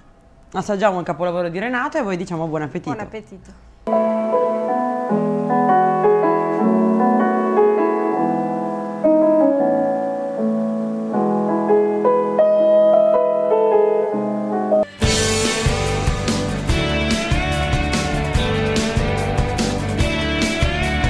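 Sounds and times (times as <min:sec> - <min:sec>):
piano music: 0:03.9 - 0:21.0.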